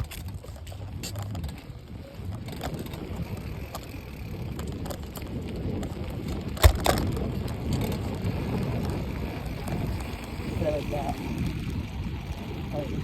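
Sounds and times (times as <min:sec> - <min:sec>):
bike rolling: 0:00.0 - 0:13.0
wind on microphone: 0:00.0 - 0:13.0.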